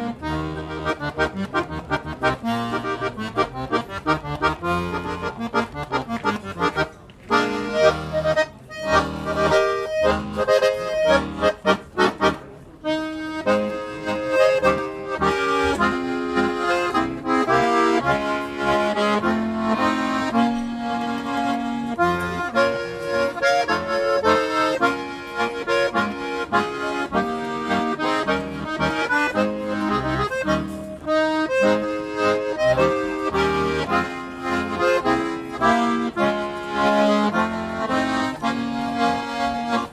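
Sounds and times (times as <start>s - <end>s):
accordion playing a march: 0.0s - 39.9s.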